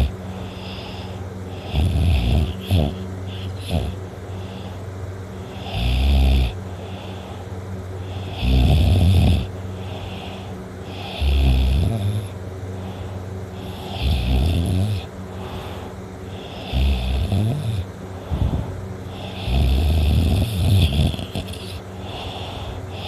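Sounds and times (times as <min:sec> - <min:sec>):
boy snoring loudly: 0:00.0 - 0:04.7, 0:05.5 - 0:07.2, 0:08.0 - 0:12.4, 0:13.6 - 0:15.7, 0:16.3 - 0:23.0.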